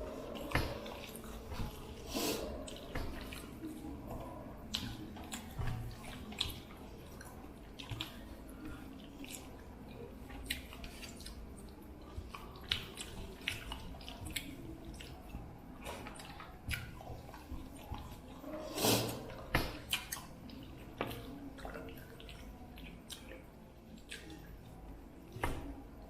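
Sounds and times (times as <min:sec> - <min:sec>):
chewing with wet mouth smacks: 0:00.0 - 0:26.0.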